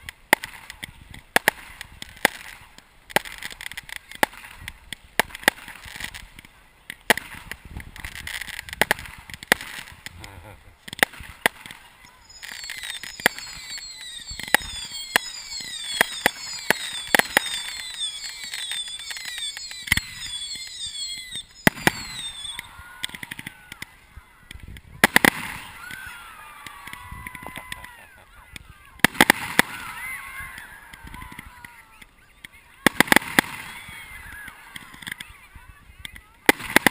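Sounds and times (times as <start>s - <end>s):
fireworks banging: 0.0s - 36.9s
fireworks whistling: 0.0s - 36.9s.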